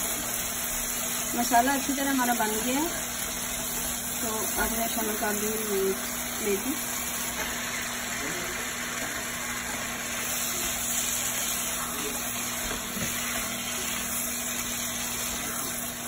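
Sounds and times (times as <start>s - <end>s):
liver sizzling in a frying pan: 0.0s - 16.0s.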